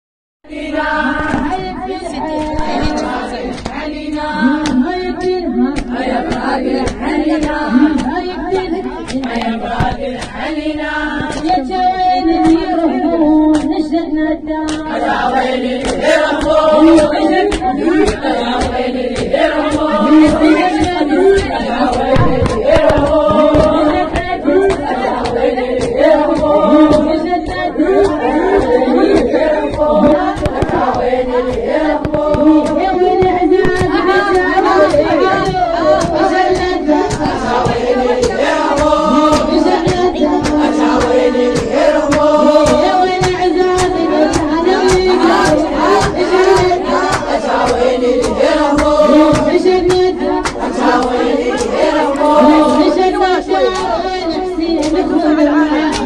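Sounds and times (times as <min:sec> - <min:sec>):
voices chanting along: 0:00.5 - 0:56.0
woman chanting a lament: 0:00.5 - 0:56.0
chest-beating slaps: 0:01.2 - 0:05.0, 0:05.7 - 0:11.7, 0:13.5 - 0:13.8, 0:14.7 - 0:56.0.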